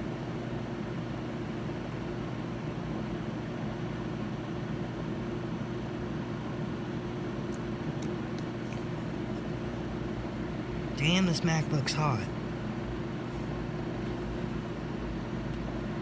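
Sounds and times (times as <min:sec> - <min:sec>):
cooling fan humming: 0:00.0 - 0:16.0.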